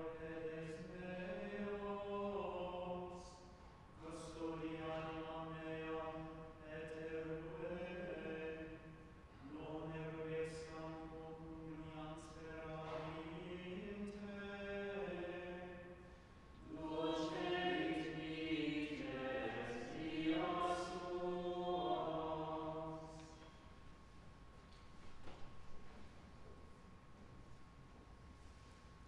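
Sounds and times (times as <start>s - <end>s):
liturgical chant: 0.0s - 23.6s.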